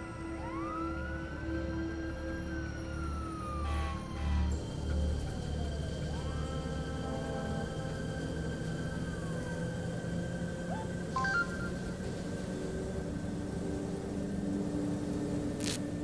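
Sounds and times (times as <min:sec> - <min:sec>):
bus engine hum: 0:00.0 - 0:16.0.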